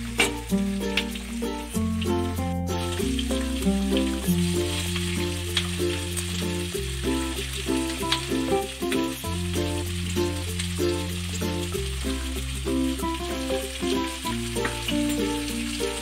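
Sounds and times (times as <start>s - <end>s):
background music: 0.0s - 16.0s
onions frying in oil: 0.0s - 16.0s.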